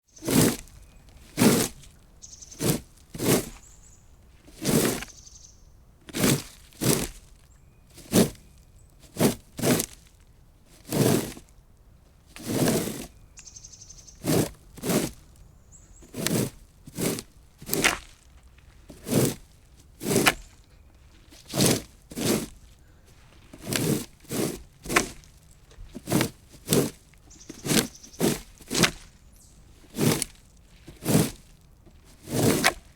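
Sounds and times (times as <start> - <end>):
plastic rake scraping: 0.1 - 5.2, 6.1 - 11.5, 12.2 - 13.4, 14.1 - 32.9.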